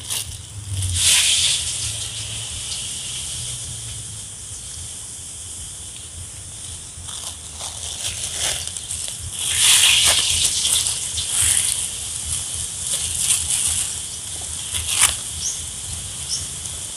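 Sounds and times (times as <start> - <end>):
steady high hiss: 0.0 - 16.9.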